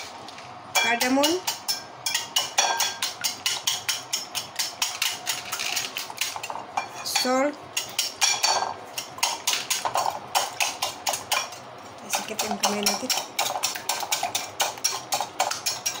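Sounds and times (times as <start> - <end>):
whisk beating eggs in bowl: 1.0 - 6.9, 7.8 - 16.0.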